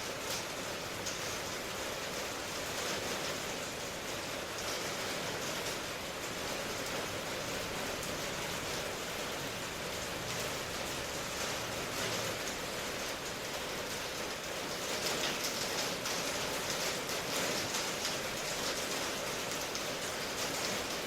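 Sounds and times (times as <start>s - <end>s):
rain hissing: 0.0s - 21.0s
raindrops pattering: 0.0s - 21.0s.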